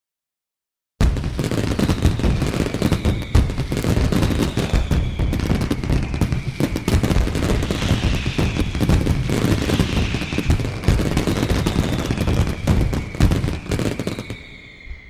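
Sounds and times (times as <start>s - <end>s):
rapid popping and crackling: 1.0s - 14.0s
faint high falling whistles: 1.0s - 15.0s.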